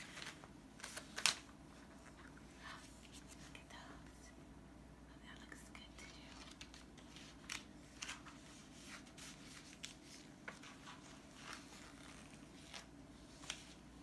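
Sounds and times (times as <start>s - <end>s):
paper pages rustling: 0.0s - 3.5s, 6.0s - 14.0s
low room hum: 0.0s - 14.0s.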